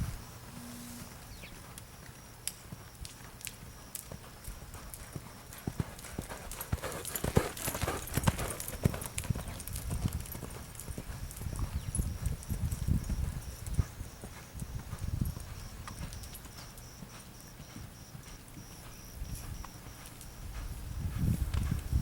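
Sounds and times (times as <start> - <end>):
horse hooves clip-clopping: 1.0 - 22.0.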